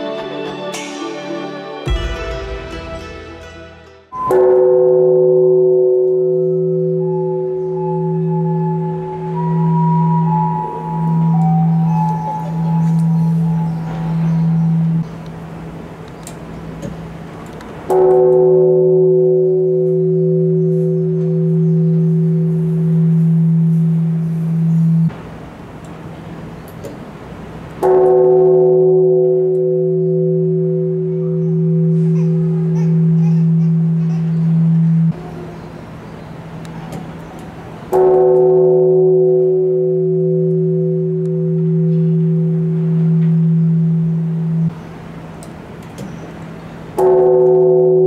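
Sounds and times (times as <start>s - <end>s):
large temple bell ringing: 0.0s - 16.0s, 16.6s - 25.1s, 27.8s - 35.9s, 36.7s - 44.8s, 46.9s - 48.0s.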